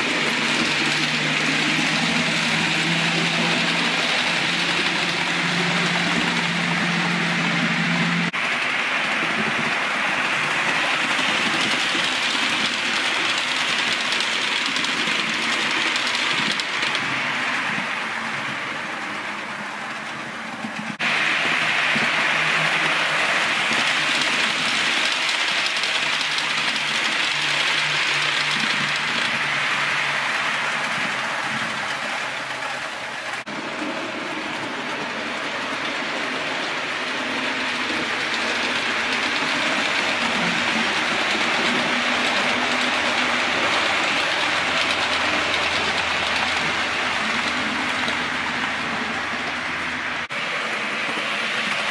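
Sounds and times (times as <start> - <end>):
model trains whirring on track: 0.0 - 51.9.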